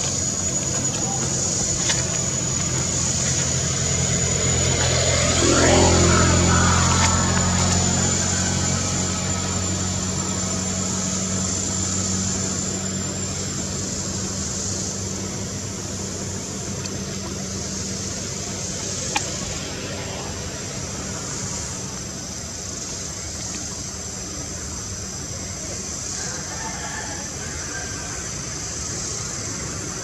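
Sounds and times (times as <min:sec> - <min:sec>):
steady high whine: 0:00.0 - 0:30.0
vehicle engine low hum: 0:00.0 - 0:30.0.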